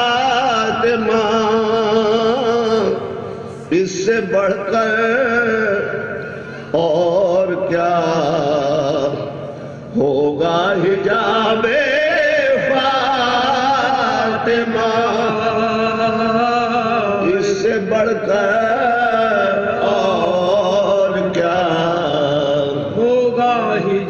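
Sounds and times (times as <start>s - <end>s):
man chanting a slow melody: 0.0s - 24.0s.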